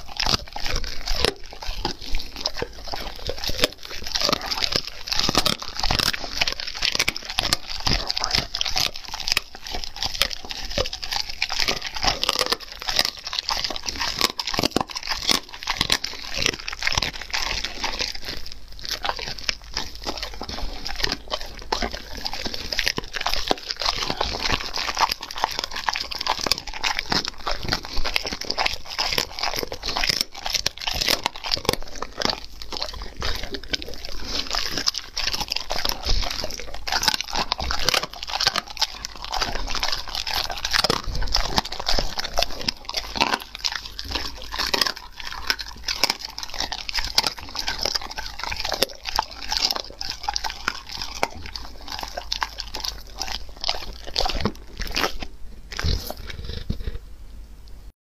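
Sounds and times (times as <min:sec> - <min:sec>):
dog chewing and tearing meat: 0:00.0 - 0:57.0.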